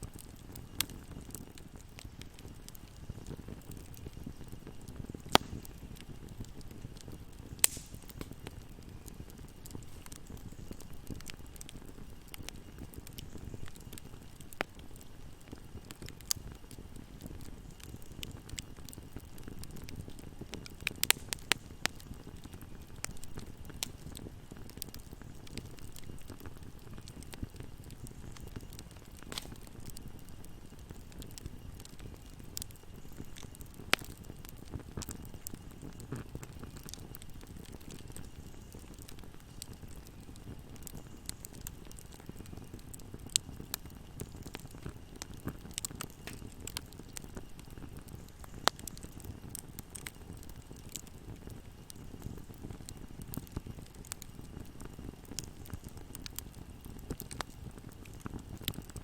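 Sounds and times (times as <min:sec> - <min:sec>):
fireplace fire crackling and popping: 0:00.0 - 0:59.0.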